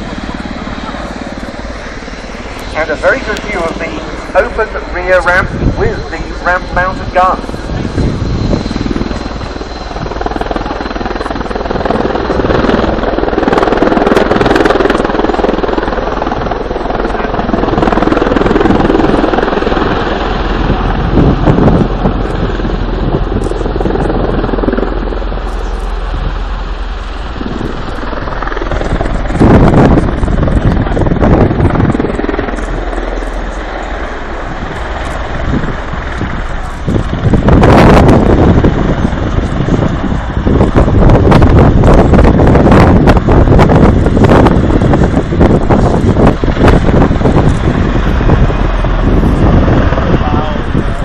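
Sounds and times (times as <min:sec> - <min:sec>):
tiltrotor aircraft flying past: 0:00.0 - 0:51.0.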